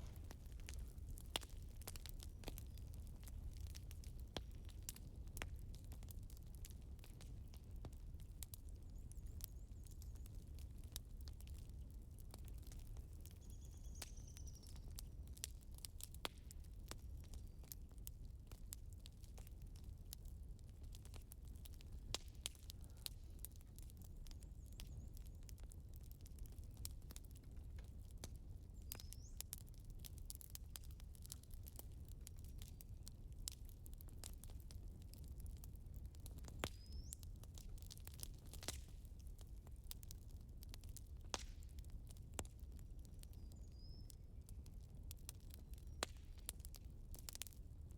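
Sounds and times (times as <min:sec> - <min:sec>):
low rumble of burning logs: 0:00.0 - 0:47.9
wood fire crackling: 0:00.0 - 0:47.9.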